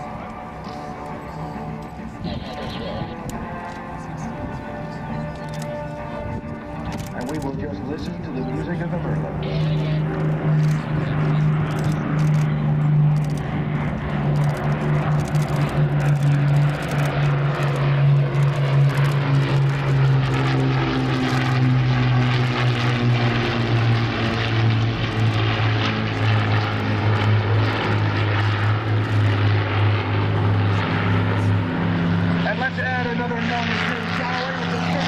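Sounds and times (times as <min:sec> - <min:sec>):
propeller aircraft engines droning: 0:00.0 - 0:35.0.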